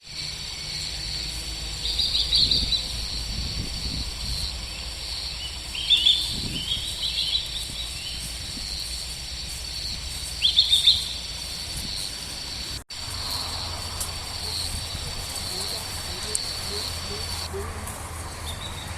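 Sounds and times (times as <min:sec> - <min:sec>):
low outdoor background hum: 0:00.0 - 0:18.9
small bird chirping: 0:00.1 - 0:18.9.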